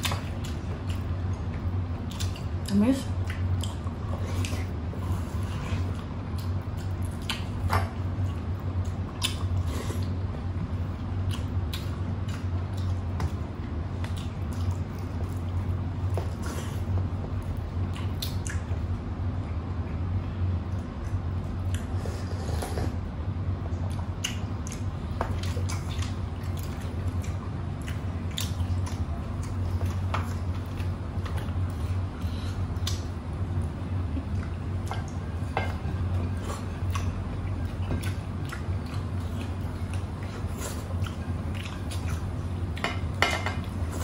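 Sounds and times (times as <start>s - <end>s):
wet chewing and smacking: 0.0s - 20.0s, 20.6s - 22.0s, 23.6s - 44.0s
steady low hum: 0.0s - 44.0s.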